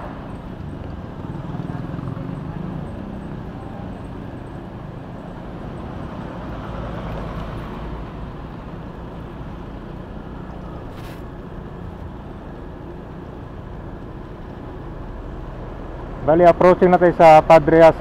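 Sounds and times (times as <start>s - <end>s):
city traffic and road noise: 0.0s - 18.0s.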